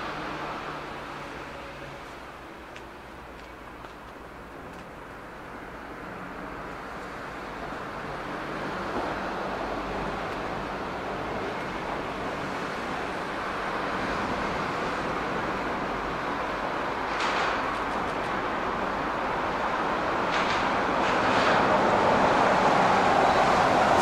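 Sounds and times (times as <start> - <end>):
train rumbling and hissing: 0.0 - 24.0.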